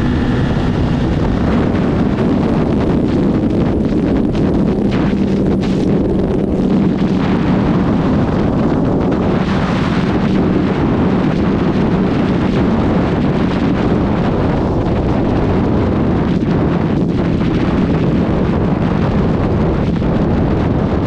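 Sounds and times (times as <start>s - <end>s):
motorcycle engine running: 0.0s - 17.2s
wind rush on microphone: 0.0s - 21.0s.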